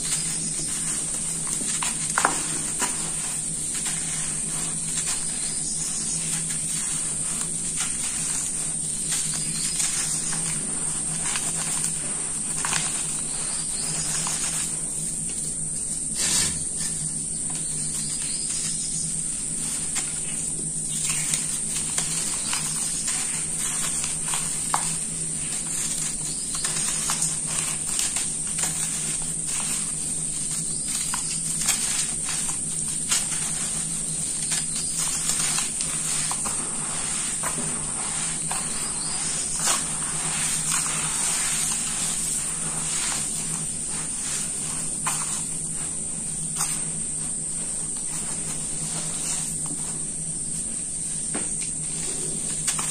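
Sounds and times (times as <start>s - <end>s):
gritty crunches of sand mix: 0.0s - 50.0s
steady high hiss: 0.0s - 52.9s.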